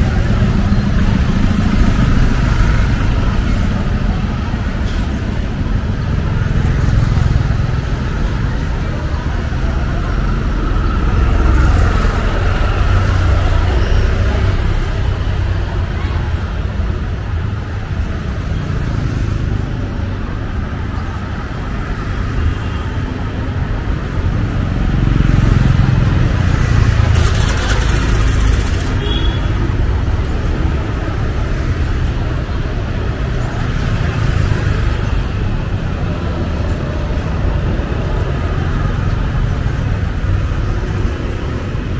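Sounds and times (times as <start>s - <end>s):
chatter of passers-by: 0.0s - 41.9s
road traffic: 0.0s - 41.9s.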